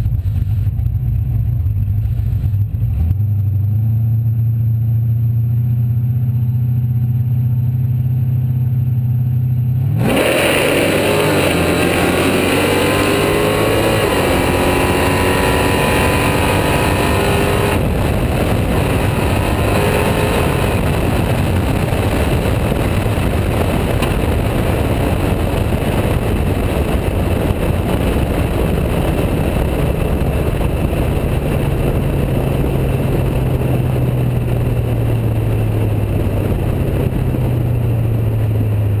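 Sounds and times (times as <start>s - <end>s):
car engine droning: 0.0s - 39.0s
wind and road noise: 0.0s - 39.0s.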